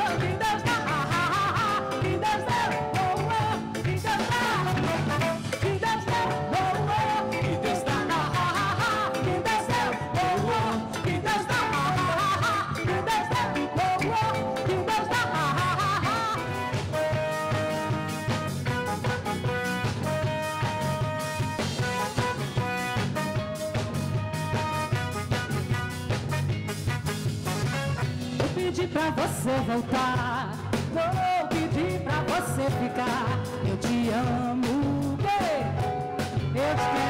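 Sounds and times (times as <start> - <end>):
bass and drum groove: 0.0 - 37.0
electric guitar lead: 0.0 - 37.0.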